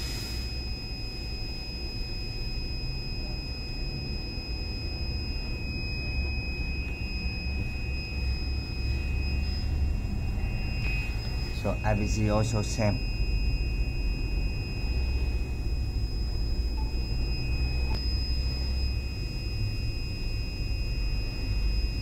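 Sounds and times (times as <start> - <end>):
high-pitched whine: 0.0 - 22.0
low machine rumble: 0.0 - 22.0.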